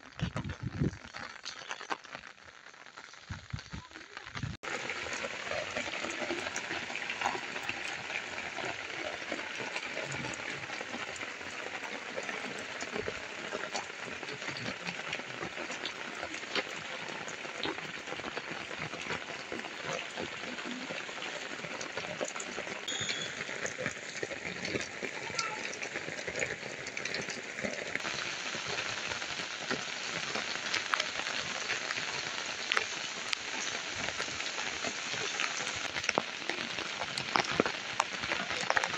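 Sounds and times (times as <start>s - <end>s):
heavy rain falling: 0.0s - 38.9s
raindrops tapping hard ground: 0.0s - 38.9s.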